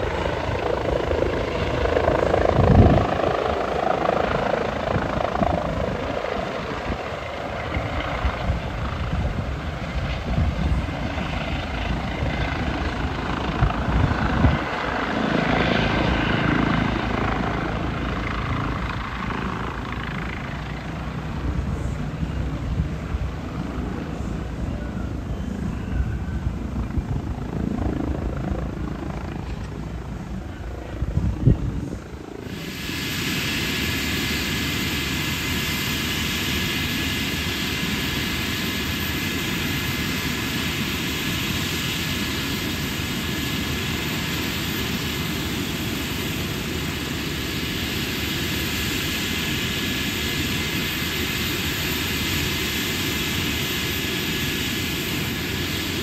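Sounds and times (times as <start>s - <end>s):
helicopter turbine hum and whine: 0.0s - 56.0s.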